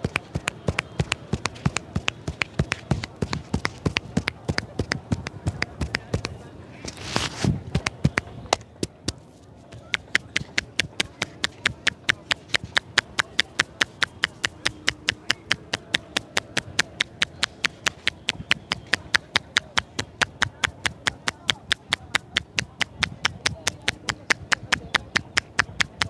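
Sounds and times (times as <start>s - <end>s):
palms tapping on head: 0.0s - 6.3s, 9.8s - 26.0s.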